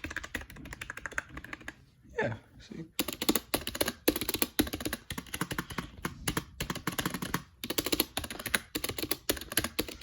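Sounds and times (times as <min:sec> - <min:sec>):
keyboard typing: 0:00.0 - 0:01.8, 0:03.0 - 0:10.0.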